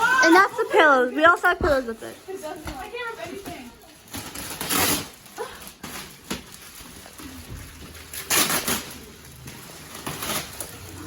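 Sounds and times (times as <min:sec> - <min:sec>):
plastic wrapping ripping: 0:00.0 - 0:11.0.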